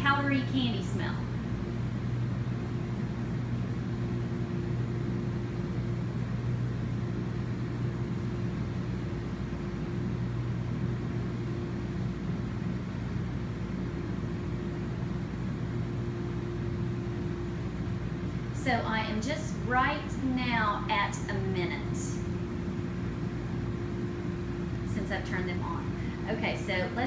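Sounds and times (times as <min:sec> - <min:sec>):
jet pump motor hum: 0:00.0 - 0:27.0.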